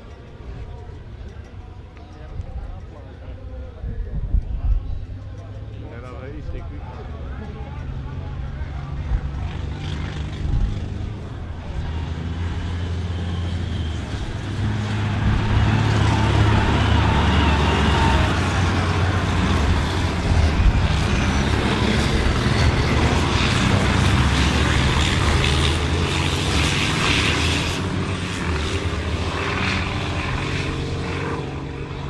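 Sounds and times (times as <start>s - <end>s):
combine harvester diesel engines: 0.0s - 32.0s.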